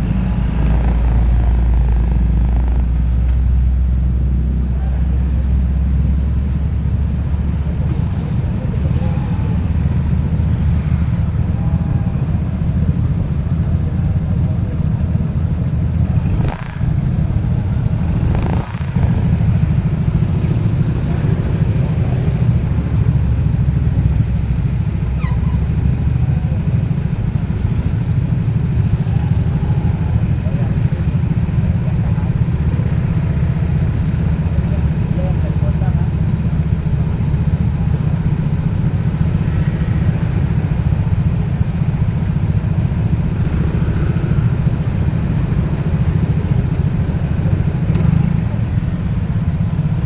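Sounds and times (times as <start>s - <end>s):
vehicle engine and road noise: 0.0s - 50.0s.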